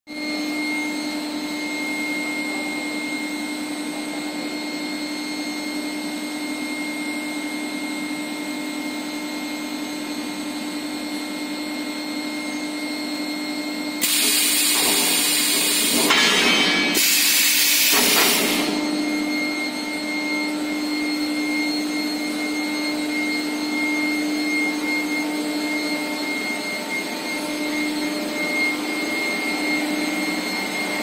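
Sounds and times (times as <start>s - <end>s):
machine hum with high whine: 0.1s - 31.0s.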